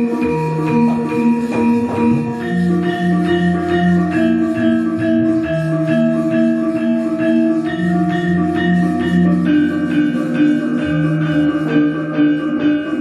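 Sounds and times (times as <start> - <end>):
gamelan metallophones ringing: 0.0 - 13.0
low sustained tone: 0.0 - 13.0.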